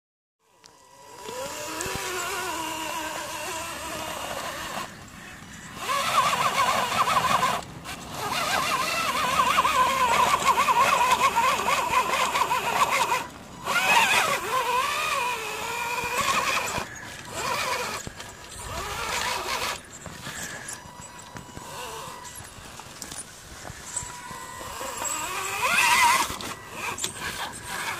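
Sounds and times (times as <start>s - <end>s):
electric motor whining: 0.4s - 27.9s.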